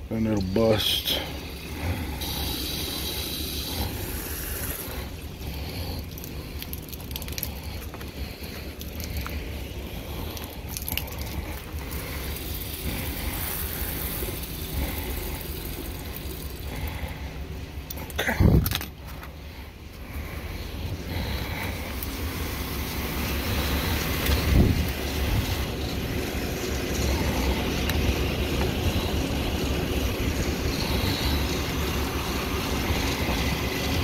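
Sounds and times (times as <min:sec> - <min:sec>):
hose spraying water into jug: 0:00.0 - 0:34.0
steady low hum: 0:00.0 - 0:34.0.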